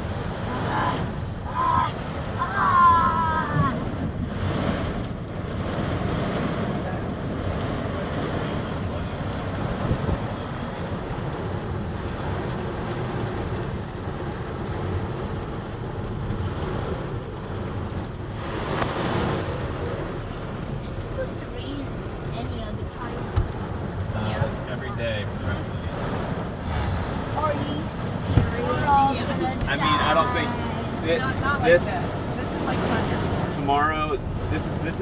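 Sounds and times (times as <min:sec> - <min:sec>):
heavy rain: 0:00.0 - 0:35.0
wind: 0:00.0 - 0:35.0.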